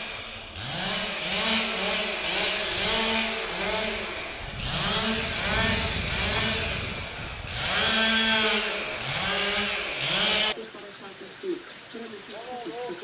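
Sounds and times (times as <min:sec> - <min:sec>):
chainsaw revving: 0:00.0 - 0:10.6.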